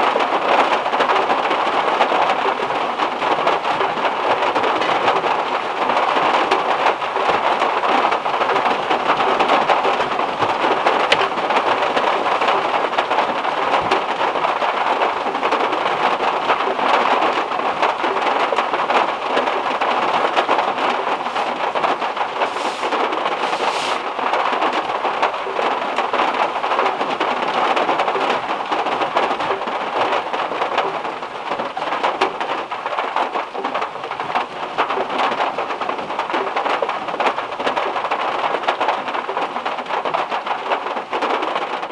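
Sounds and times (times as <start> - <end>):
heavy rain on a metal car roof: 0.0 - 41.9.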